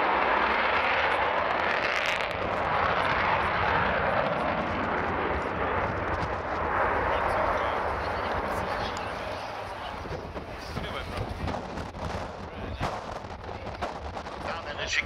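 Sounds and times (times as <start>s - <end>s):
jet bomber flying overhead: 0.0s - 15.0s.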